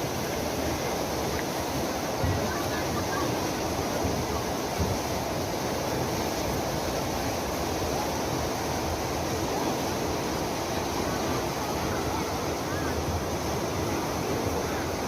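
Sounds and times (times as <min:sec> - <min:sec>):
river rushing in flood: 0:00.0 - 0:15.0.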